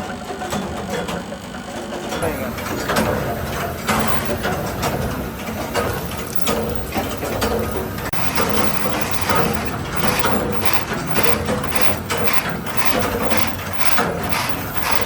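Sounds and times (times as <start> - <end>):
workshop machinery humming: 2.2 - 15.0.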